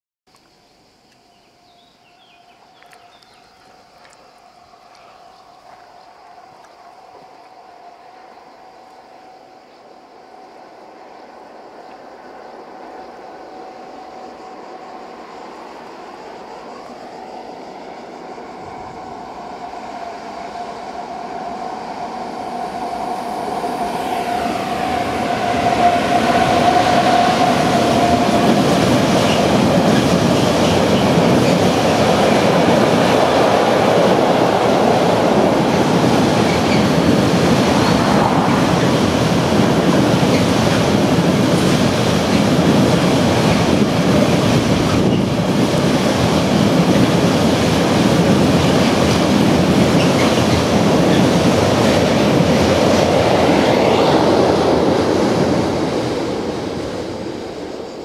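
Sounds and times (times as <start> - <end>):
electric locomotive drive whine: 0.4 - 58.0
train wagons rumbling and clattering: 2.5 - 58.0.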